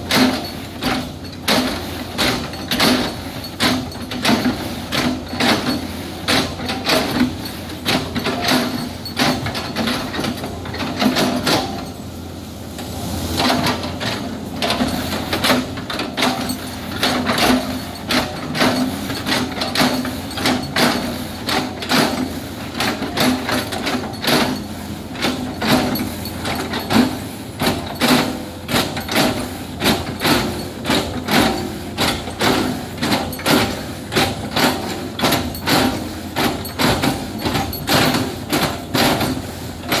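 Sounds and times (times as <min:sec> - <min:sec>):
excavator engine hum: 0:00.0 - 0:40.0.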